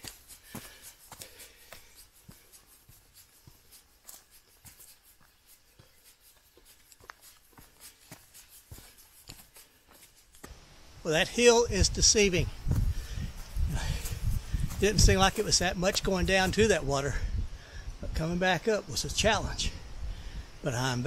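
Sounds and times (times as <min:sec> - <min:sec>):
footsteps on leafy dirt trail: 0:00.0 - 0:17.4.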